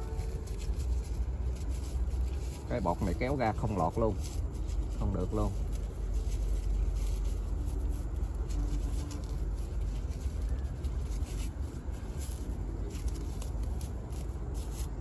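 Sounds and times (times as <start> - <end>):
plastic sleeve rustling: 0.0 - 15.0
steady low rumble: 0.0 - 15.0.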